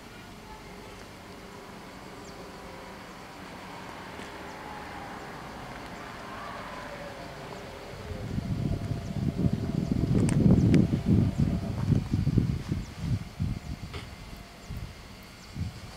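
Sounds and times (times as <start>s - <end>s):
faint high whine: 0.0s - 15.9s
train rumbling: 1.3s - 14.4s.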